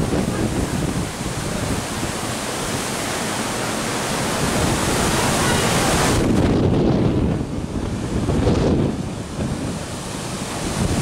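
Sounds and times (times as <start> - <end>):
rough sea rushing: 0.0 - 11.0
storm wind: 0.0 - 11.0.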